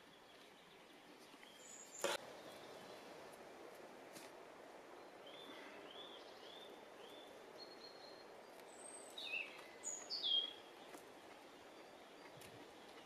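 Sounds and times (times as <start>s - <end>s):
birds chirping: 0.0s - 3.1s, 4.9s - 13.0s
faint background noise: 0.0s - 13.0s.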